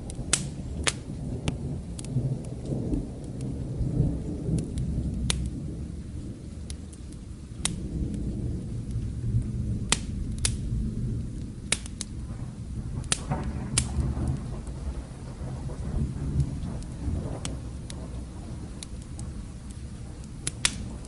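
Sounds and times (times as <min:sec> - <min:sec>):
distant thunder rumble: 0:00.0 - 0:21.0
rain: 0:00.0 - 0:21.0
wood fire crackling: 0:00.0 - 0:21.0.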